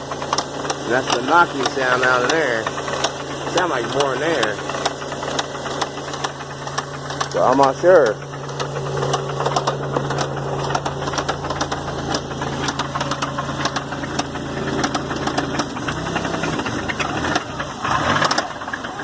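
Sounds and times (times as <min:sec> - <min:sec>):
car engine idling: 0:00.0 - 0:19.0
rapid engine knock: 0:00.0 - 0:19.0.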